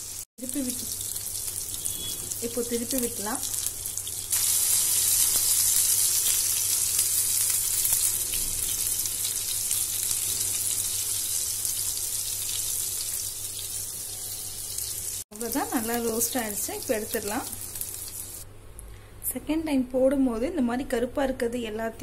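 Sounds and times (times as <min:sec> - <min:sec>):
fish frying in oil: 0:00.0 - 0:18.4.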